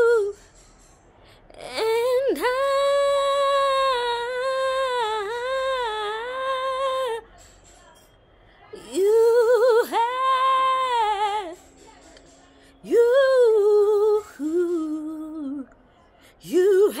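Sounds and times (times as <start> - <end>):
woman singing unaccompanied: 0.0 - 0.4, 1.5 - 7.4, 8.7 - 11.7, 12.6 - 17.0.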